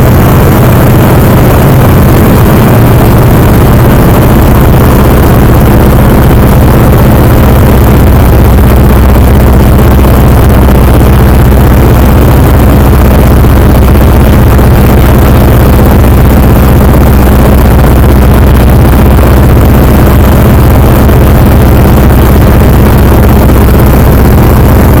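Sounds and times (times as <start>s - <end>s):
radial aircraft engine running: 0.0s - 25.0s.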